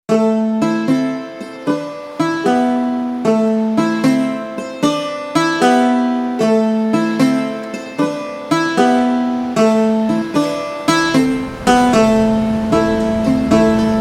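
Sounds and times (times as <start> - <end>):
instrumental music with plucked chords: 0.1 - 14.0.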